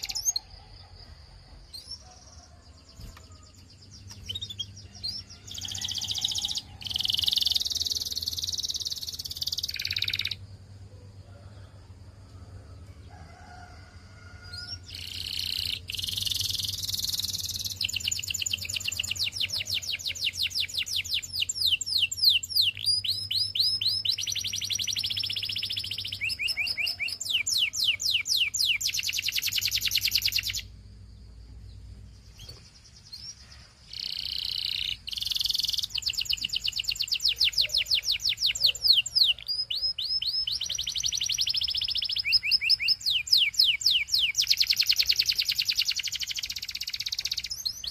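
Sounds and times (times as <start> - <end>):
canary singing trills: 0.0 - 11.5, 14.4 - 47.9.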